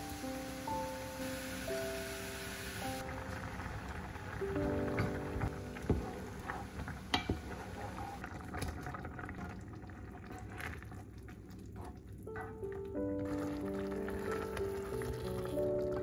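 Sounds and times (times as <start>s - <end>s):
congee bubbling in a pot: 3.0s - 16.0s.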